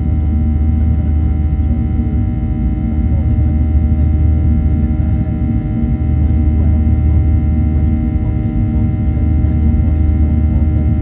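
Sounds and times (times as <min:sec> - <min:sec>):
jet engines at climb thrust: 0:00.0 - 0:11.0.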